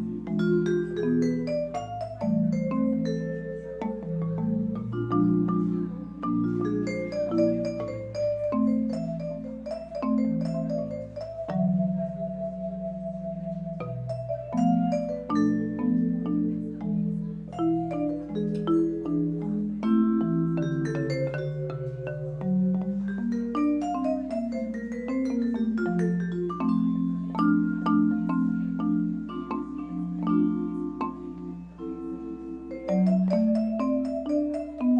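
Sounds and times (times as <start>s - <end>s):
mallet percussion music: 0.0s - 34.9s.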